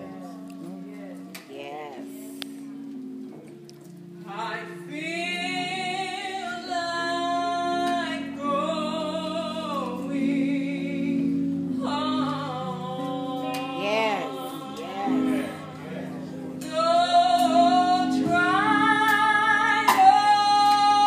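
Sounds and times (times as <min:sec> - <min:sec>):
woman singing gospel song: 0:00.0 - 0:02.6, 0:04.2 - 0:21.0
sustained accompanying chords: 0:00.0 - 0:21.0.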